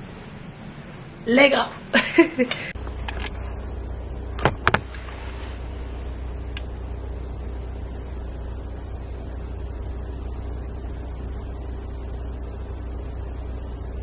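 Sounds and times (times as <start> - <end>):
car engine rumble inside cabin: 2.8 - 14.0.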